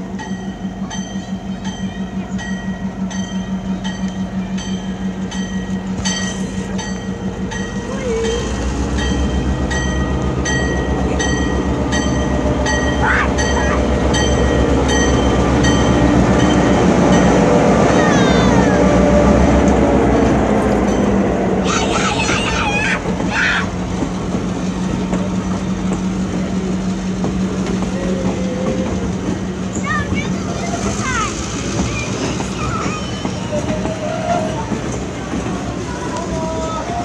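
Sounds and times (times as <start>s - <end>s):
locomotive bell ringing: 0.0s - 37.0s
locomotive engine and wheels rumbling: 0.0s - 37.0s.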